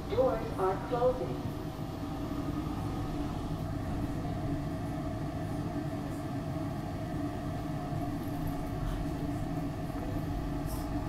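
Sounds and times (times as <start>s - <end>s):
steady higher equipment tone: 0.0s - 11.0s
subway car low rumble: 0.0s - 11.0s.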